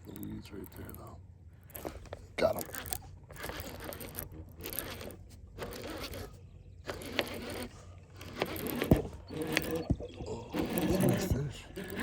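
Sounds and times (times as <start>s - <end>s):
fishing reel gears whirring: 0.0s - 12.0s.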